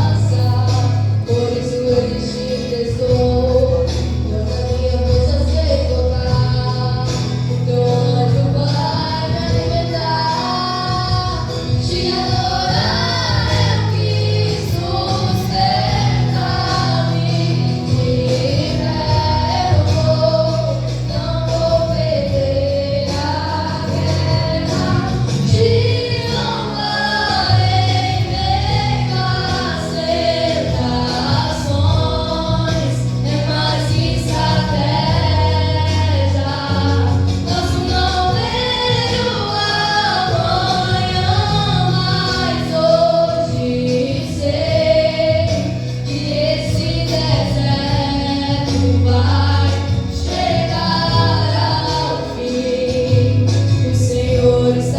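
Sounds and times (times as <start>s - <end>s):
instrumental accompaniment with bass: 0.0s - 54.9s
women singing worship song: 0.0s - 54.9s.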